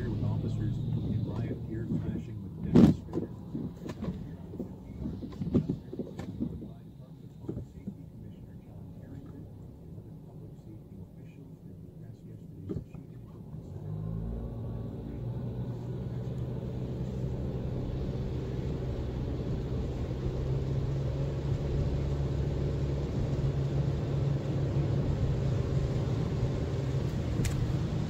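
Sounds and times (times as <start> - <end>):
car engine hum: 0.0 - 28.0.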